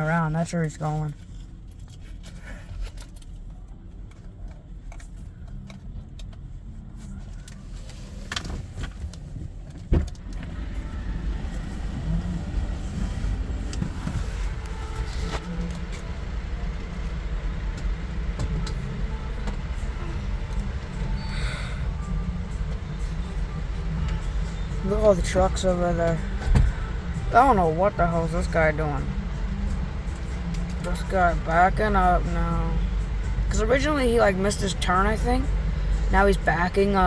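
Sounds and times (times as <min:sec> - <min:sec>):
car engine rumble: 0:00.0 - 0:37.0
road noise: 0:00.0 - 0:37.0.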